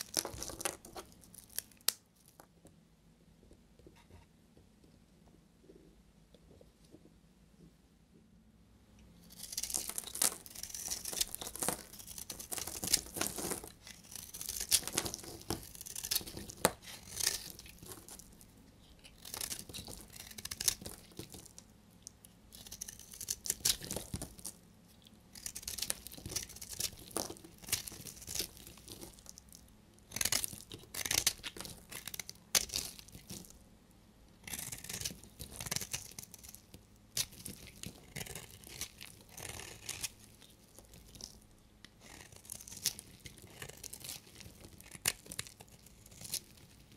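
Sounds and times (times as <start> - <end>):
knife scraping dried soap: 0.0 - 1.9, 9.3 - 33.6, 34.4 - 46.9.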